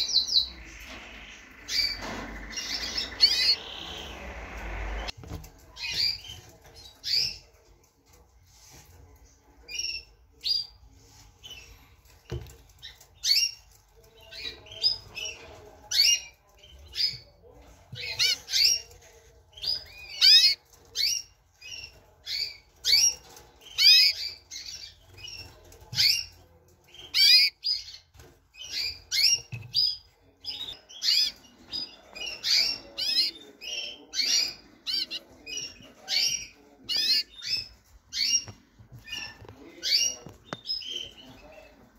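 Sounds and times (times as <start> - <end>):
canaries chirping: 0.0 - 41.9.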